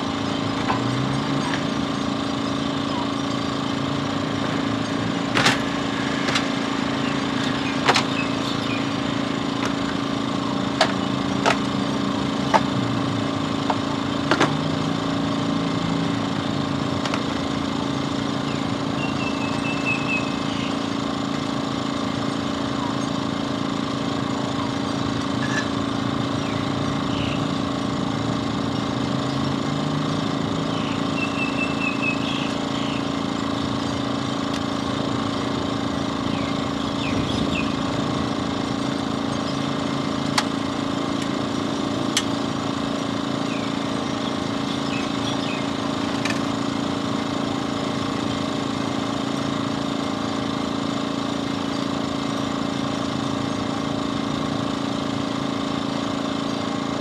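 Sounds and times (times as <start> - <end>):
motor humming: 0.0 - 57.0.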